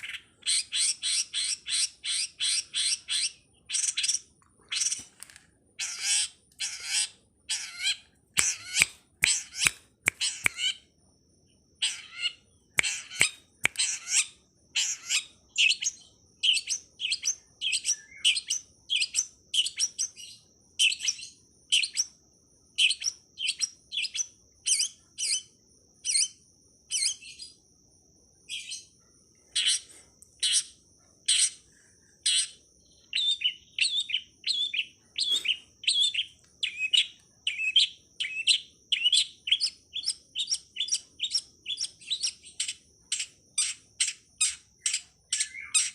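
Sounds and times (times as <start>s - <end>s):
bird chirping high and sharp: 0.0s - 5.1s, 5.8s - 10.8s, 11.8s - 22.1s, 22.7s - 27.6s, 30.4s - 31.6s, 32.2s - 45.9s.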